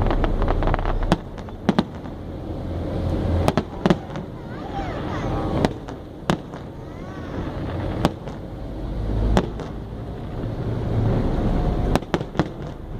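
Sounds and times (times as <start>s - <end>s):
fireworks bangs: 0.0s - 12.9s
steady low rumble: 0.0s - 12.9s.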